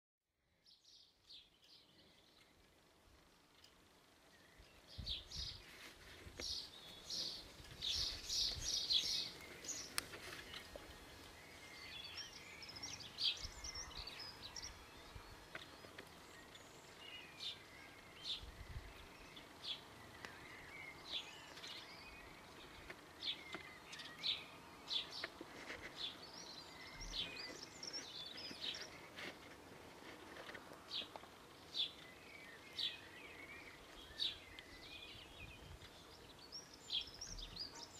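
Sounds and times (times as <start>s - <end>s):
faint outdoor background: 0.2s - 37.9s
birds chirping: 0.6s - 37.9s.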